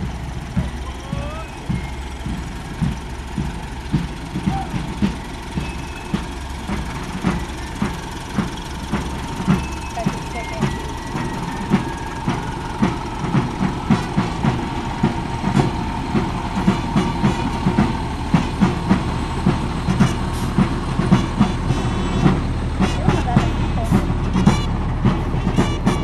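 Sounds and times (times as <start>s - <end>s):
footsteps marching in step: 0.0s - 26.0s
low engine rumble: 0.0s - 26.0s.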